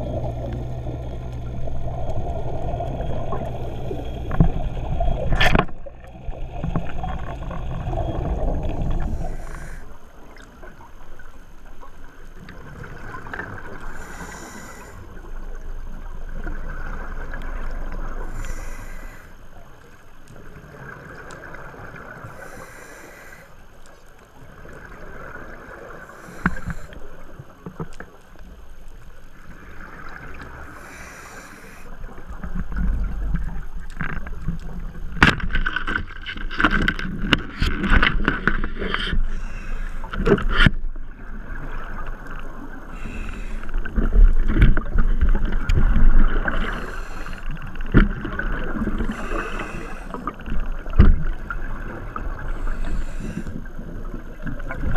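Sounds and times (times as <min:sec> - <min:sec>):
underwater rushing noise: 0:00.0 - 0:54.9.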